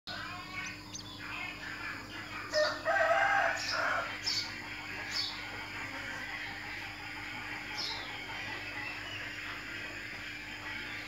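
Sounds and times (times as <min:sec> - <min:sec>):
faint steady hum: 0:00.1 - 0:11.0.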